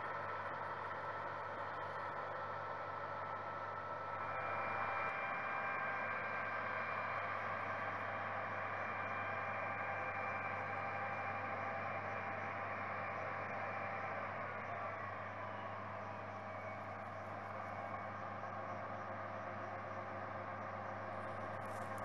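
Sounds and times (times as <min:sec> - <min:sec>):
distant harvesters mechanical whir: 0:00.0 - 0:22.0.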